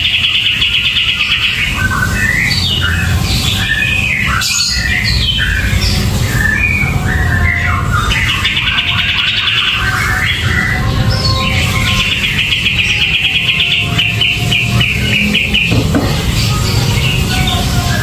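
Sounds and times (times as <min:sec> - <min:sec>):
bulbul singing whistled notes: 0:00.0 - 0:18.0
buzzy bird trill: 0:00.0 - 0:18.0.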